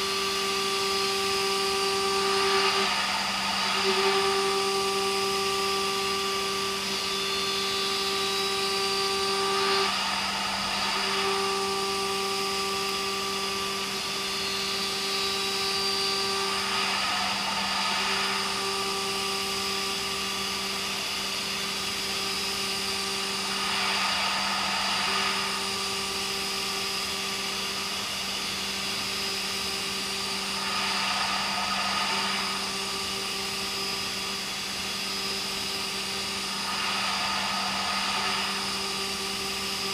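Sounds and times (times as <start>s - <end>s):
milling machine hum and whine: 0.0s - 39.9s.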